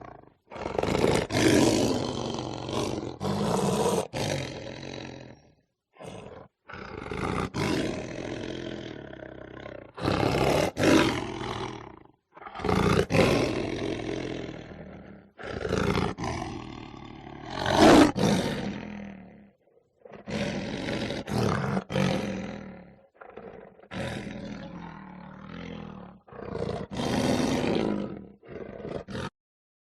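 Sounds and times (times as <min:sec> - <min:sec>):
lion roaring: 0:00.0 - 0:29.3.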